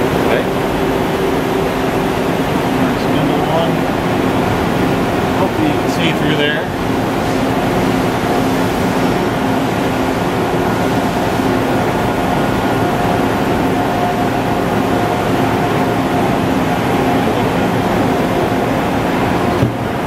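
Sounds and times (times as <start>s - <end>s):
lathe mechanical hum: 0.0s - 20.0s.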